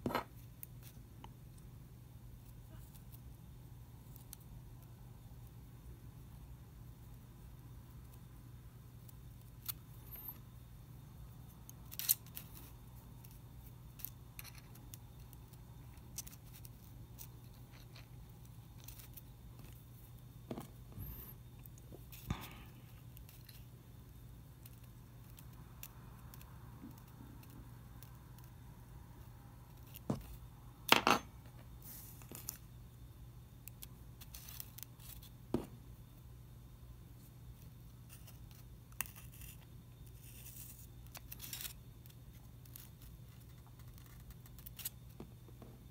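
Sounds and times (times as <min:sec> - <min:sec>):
faint low hum: 0:00.0 - 0:45.9.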